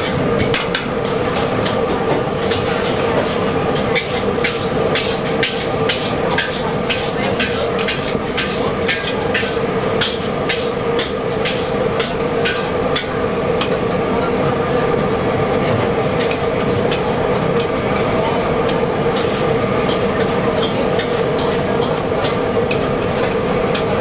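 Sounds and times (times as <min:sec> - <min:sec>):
food sizzling: 0:00.0 - 0:24.0.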